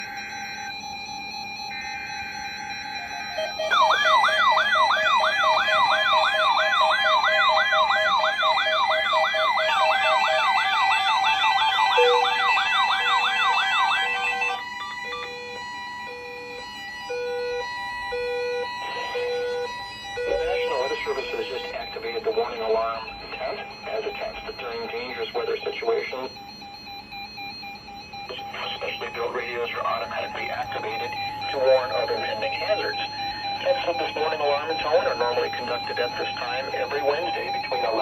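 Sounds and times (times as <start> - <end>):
siren tone sweeping up and down: 1.4 - 38.0.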